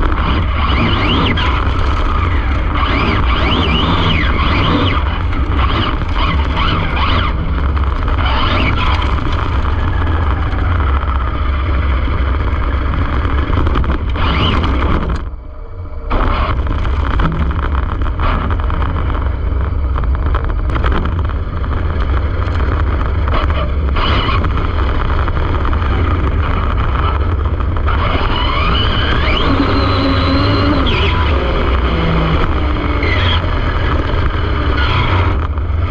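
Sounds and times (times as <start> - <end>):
rc car motor whine: 0.0 - 35.9
rumble of tyres and wind: 0.0 - 35.9.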